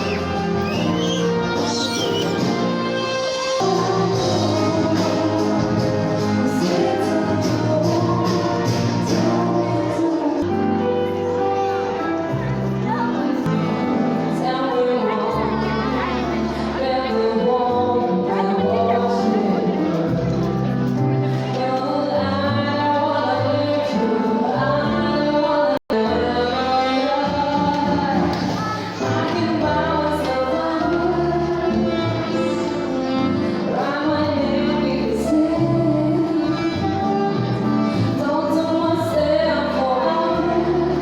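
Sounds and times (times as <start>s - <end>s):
song with vocals over instruments: 0.0s - 41.0s.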